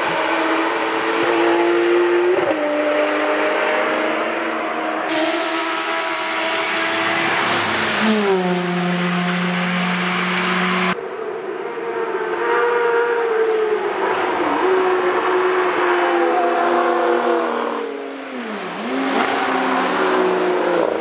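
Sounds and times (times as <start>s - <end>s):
racing engines passing: 0.0s - 21.0s.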